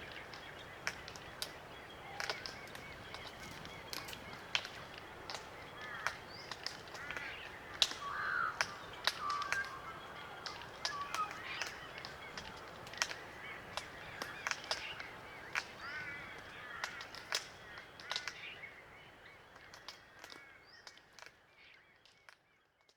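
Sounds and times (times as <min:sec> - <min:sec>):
bird bills clicking on cones: 0:00.0 - 0:22.9.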